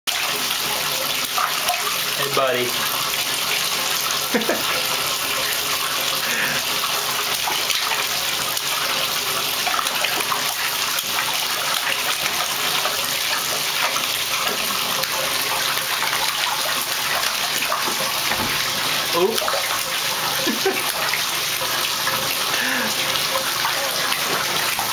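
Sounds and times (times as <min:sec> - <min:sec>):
water running from bathtub faucet: 0:00.1 - 0:24.9.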